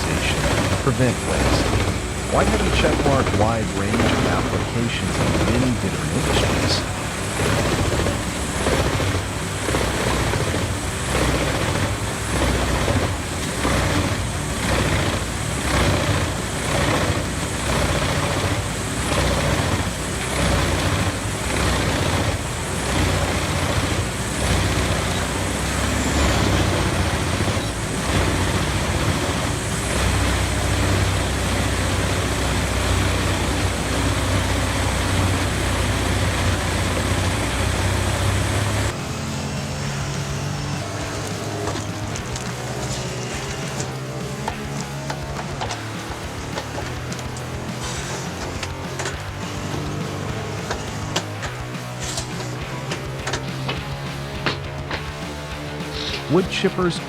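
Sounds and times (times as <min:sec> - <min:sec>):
wood chipper engine running: 0:00.0 - 0:57.0.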